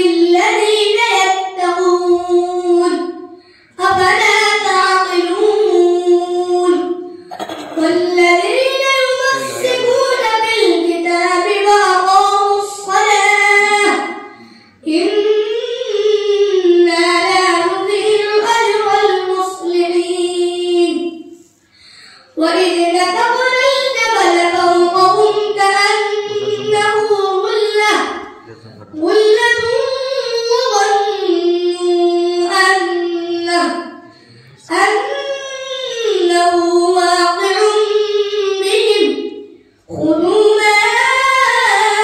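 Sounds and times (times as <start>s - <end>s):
boy chanting into a microphone: 0.0s - 21.5s, 22.3s - 42.0s.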